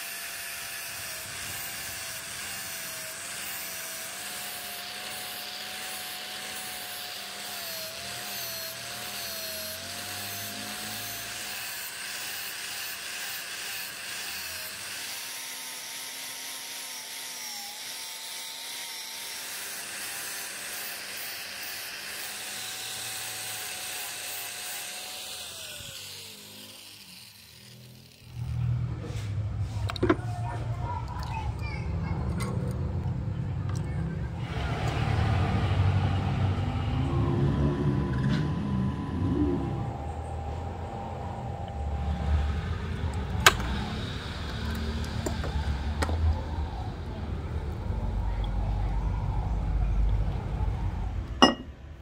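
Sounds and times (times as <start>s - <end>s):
angle grinder grinding metal: 0.0s - 30.2s, 34.3s - 47.9s.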